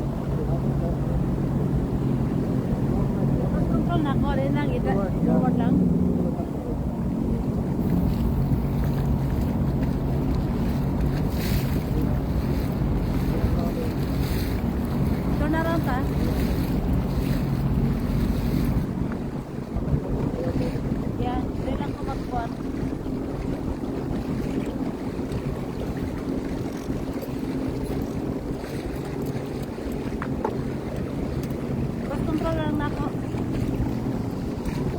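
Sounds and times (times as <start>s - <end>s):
water rushing past: 0.0s - 34.9s
watercraft engine drone: 0.0s - 34.9s
wind buffeting microphone: 0.0s - 34.9s.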